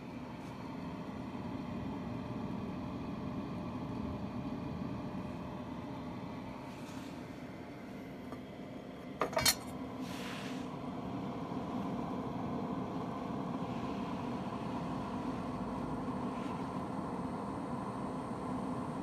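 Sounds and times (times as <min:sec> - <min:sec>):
film projector whirring hum: 0:00.0 - 0:19.0.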